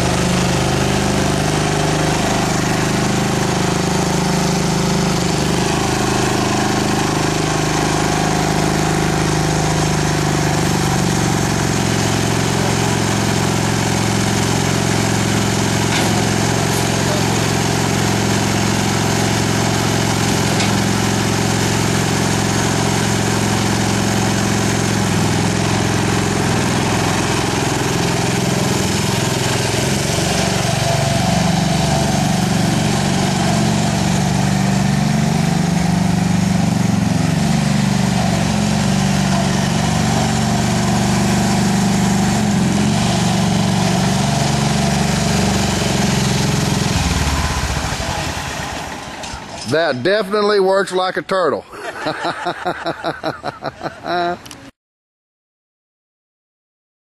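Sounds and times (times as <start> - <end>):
lawn tractor engine running: 0.0 - 54.6.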